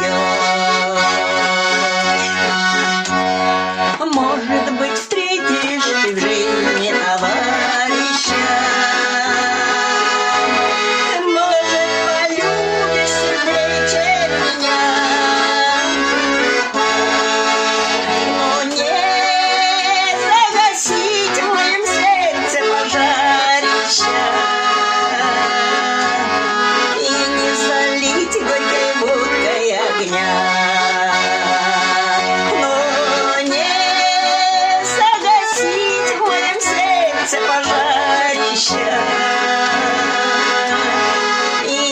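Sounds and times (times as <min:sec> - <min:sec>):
button accordion folk melody: 0:00.0 - 0:41.9.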